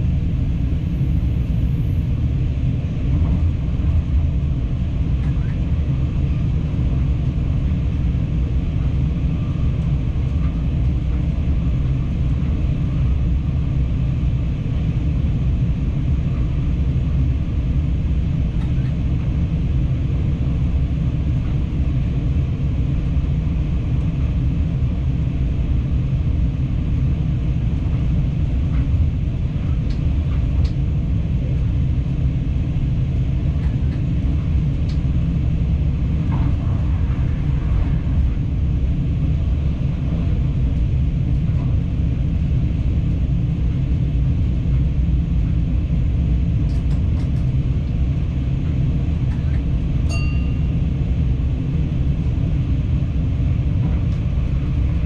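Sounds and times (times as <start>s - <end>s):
train running gear rumble: 0.0s - 55.0s.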